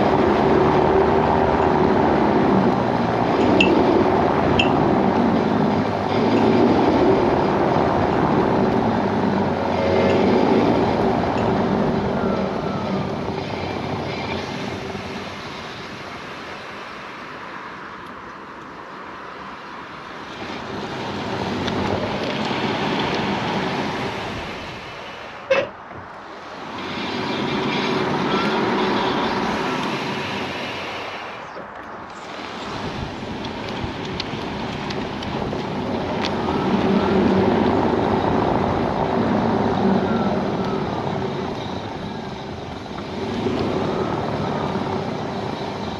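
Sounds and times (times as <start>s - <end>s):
road and tyre noise: 0.0s - 45.9s.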